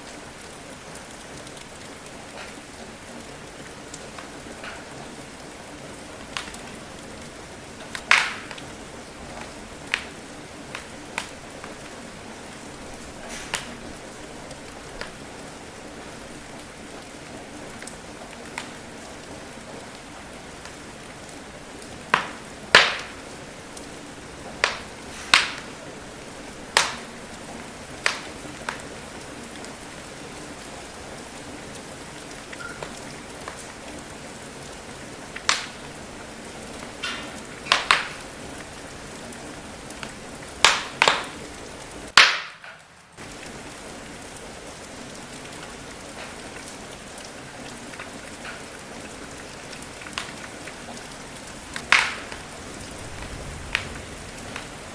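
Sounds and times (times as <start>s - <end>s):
rain hiss: 0.0s - 54.9s
wood fire popping and crackling: 0.0s - 54.9s.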